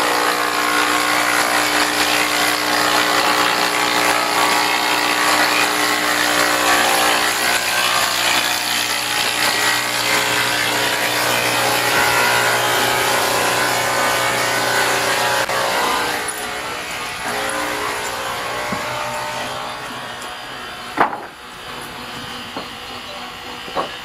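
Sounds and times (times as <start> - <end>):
sawmill saw cutting wood: 0.0 - 24.0.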